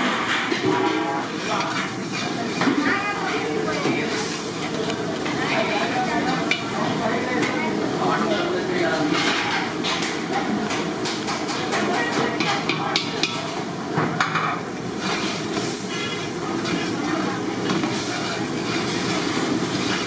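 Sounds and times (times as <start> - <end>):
gas burner rushing: 0.0 - 11.6, 13.2 - 20.0.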